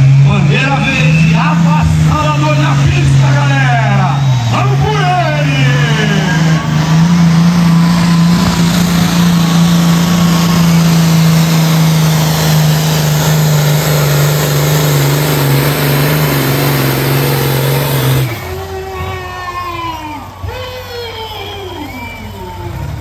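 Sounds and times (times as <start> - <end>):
tractor diesel engine at full throttle: 0.0 - 23.0.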